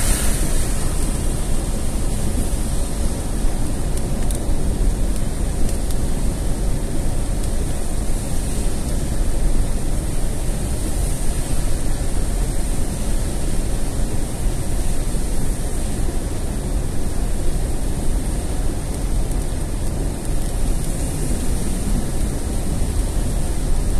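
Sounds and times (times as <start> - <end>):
rain on car roof: 0.0 - 23.9
tyres on wet road: 0.0 - 23.9.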